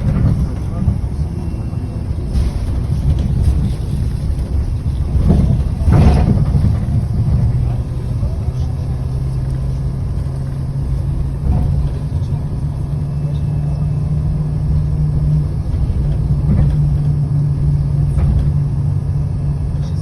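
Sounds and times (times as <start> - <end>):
bus engine drone: 0.0 - 20.0
road rumble: 0.0 - 20.0.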